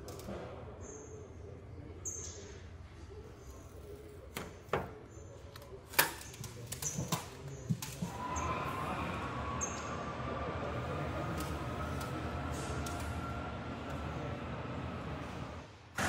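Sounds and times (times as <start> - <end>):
low factory hum: 0.0 - 16.0.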